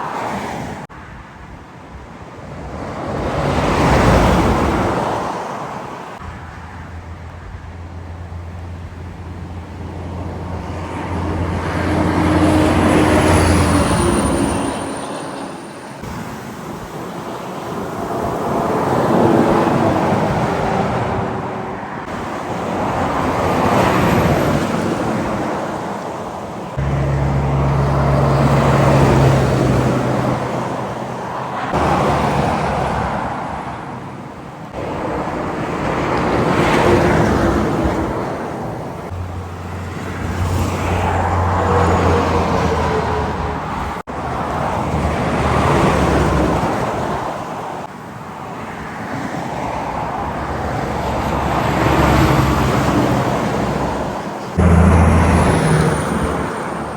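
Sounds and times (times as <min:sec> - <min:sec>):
highway traffic passing: 0:00.0 - 0:56.9.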